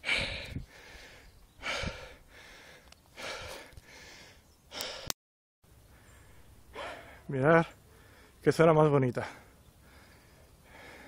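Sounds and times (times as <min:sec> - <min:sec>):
heavy breathing: 0:00.0 - 0:05.2, 0:05.9 - 0:08.4, 0:09.2 - 0:11.0.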